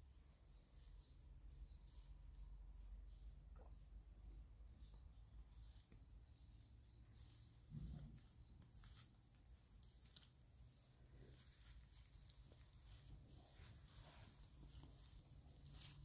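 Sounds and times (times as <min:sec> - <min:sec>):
faint rustles and ticks: 0:00.0 - 0:16.0.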